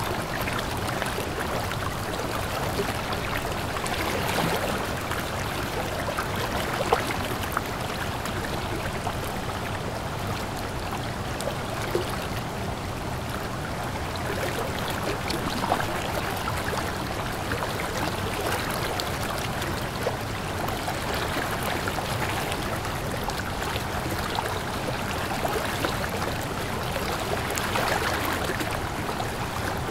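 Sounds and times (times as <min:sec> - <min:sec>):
stream running over rocks: 0:00.0 - 0:29.9.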